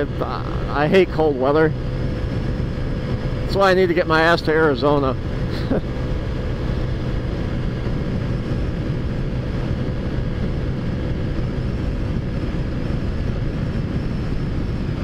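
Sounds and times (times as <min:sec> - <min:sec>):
road and wind noise: 0:00.0 - 0:15.0
scooter engine cruising: 0:00.0 - 0:15.0.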